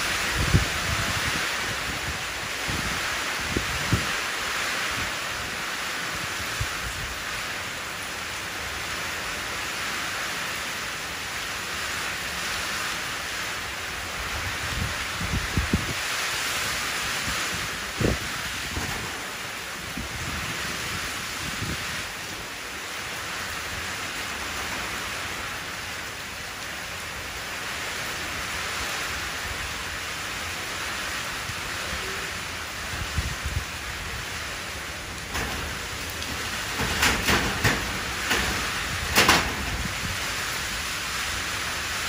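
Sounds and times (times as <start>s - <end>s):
rain splashing into puddle: 0.0s - 42.0s.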